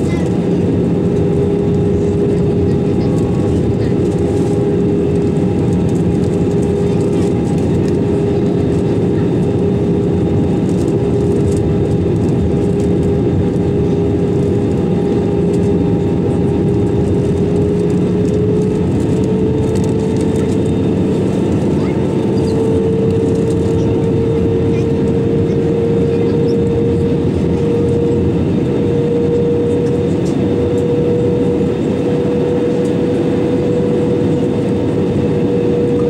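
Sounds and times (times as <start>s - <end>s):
airflow rushing in aircraft cabin: 0.0s - 36.0s
jet engine hum: 0.0s - 36.0s.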